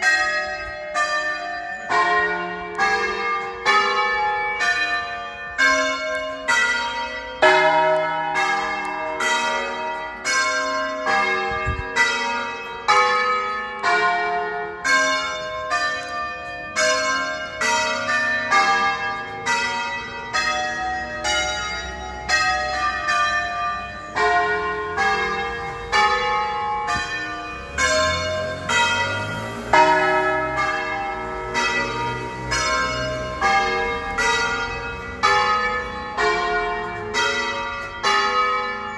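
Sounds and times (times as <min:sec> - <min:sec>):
church tower bells ringing: 0:00.0 - 0:38.9.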